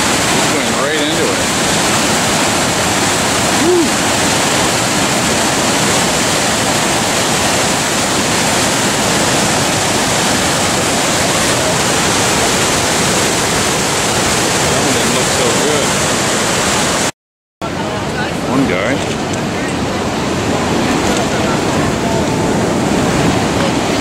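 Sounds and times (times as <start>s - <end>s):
waterfall and rapids rushing: 0.0s - 24.0s.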